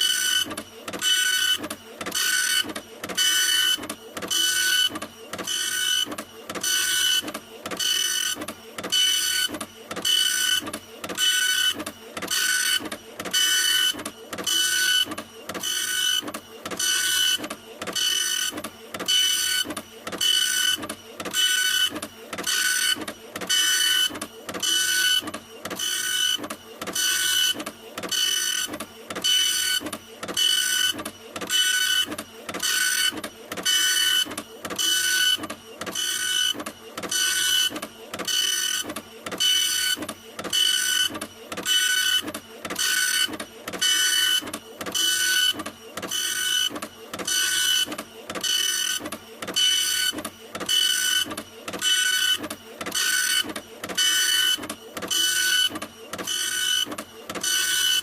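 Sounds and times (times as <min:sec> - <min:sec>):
printer hissing and whining: 0:00.0 - 0:58.0.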